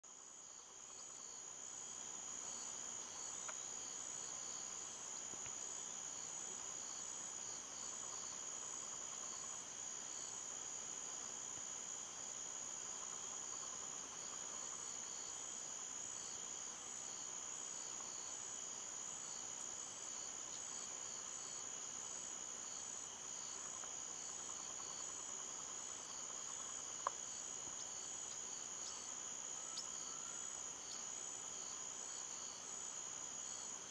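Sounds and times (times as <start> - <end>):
insects trilling: 0.1 - 33.9
pulsing insect chirp: 0.1 - 33.9.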